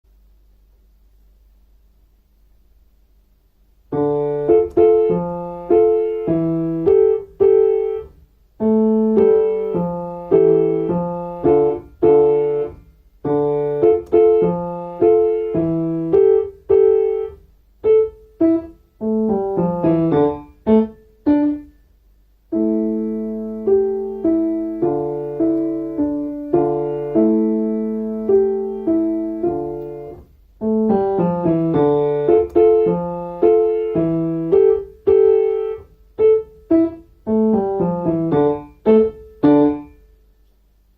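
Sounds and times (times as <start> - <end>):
piano playing: 3.9 - 40.3.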